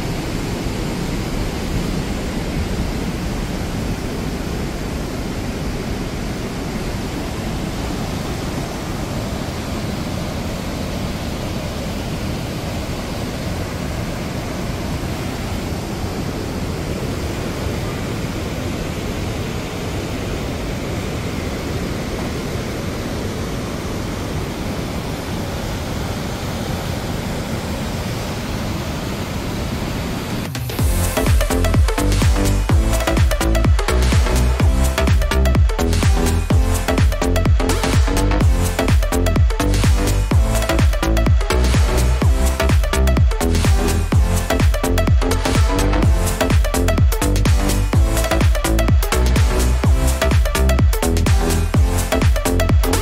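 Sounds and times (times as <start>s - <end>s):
waterfall and rapids rushing: 0.0s - 53.0s.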